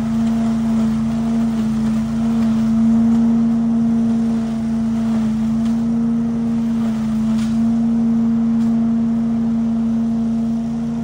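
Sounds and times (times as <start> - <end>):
leaf vacuum droning: 0.0 - 11.0.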